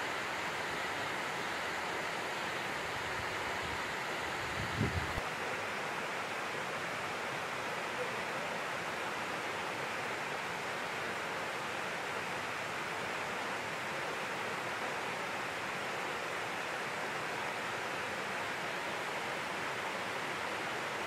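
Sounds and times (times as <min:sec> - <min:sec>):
water rushing down a dam: 0:00.0 - 0:21.0.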